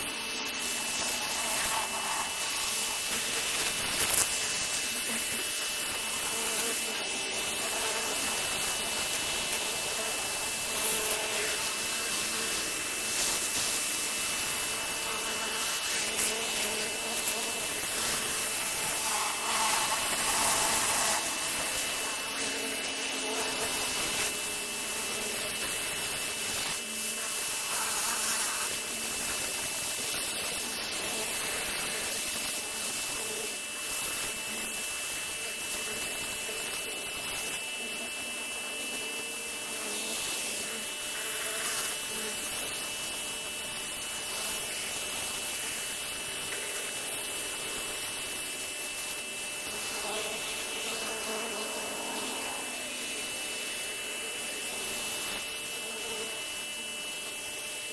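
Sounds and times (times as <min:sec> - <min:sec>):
pressure washer spray hiss: 0:00.0 - 0:57.5
pressure washer high whine: 0:00.0 - 0:57.9.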